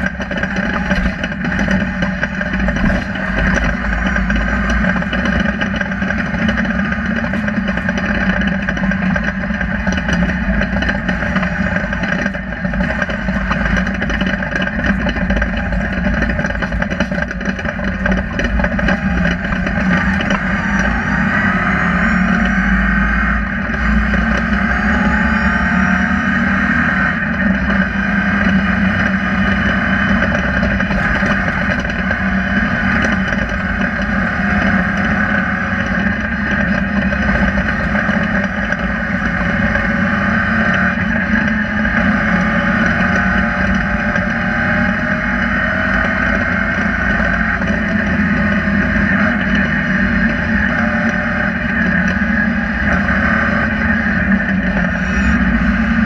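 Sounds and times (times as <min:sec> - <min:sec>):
rally car engine running: 0:00.0 - 0:56.0
road and wind noise: 0:00.0 - 0:56.0.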